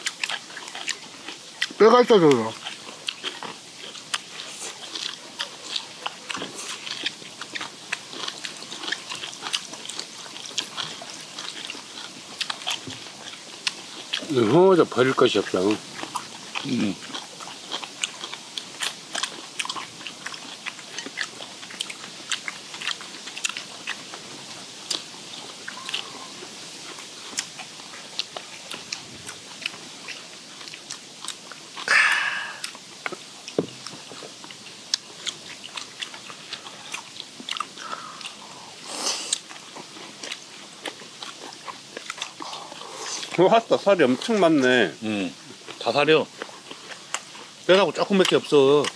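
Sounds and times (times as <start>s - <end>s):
people chewing crunchy cartilage: 0.0s - 48.9s.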